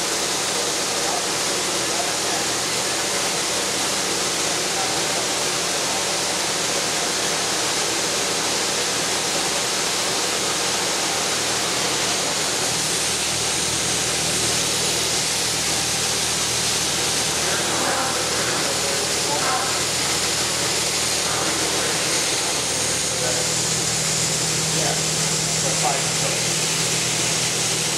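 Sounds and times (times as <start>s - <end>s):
pressure washer spray hissing: 0.0s - 27.9s.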